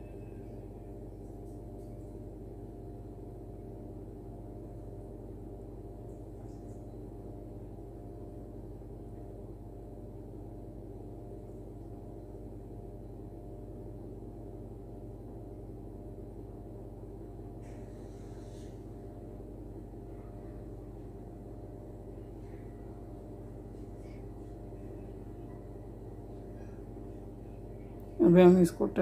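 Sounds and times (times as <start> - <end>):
steady low hum with held tones: 0.0 - 29.0.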